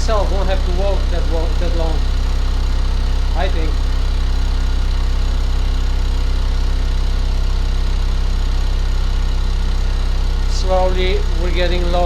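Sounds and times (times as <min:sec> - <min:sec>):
motor and fan low hum: 0:00.0 - 0:12.0.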